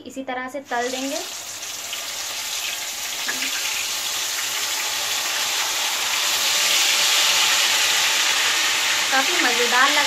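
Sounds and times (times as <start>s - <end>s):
chicken sizzling in hot oil: 0.7s - 10.0s.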